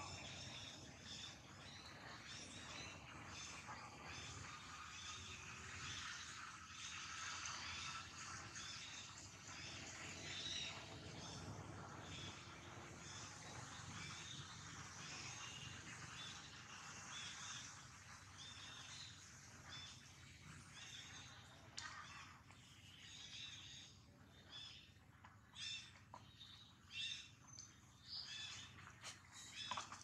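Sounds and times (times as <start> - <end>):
faint bird chirps: 0.0 - 30.0.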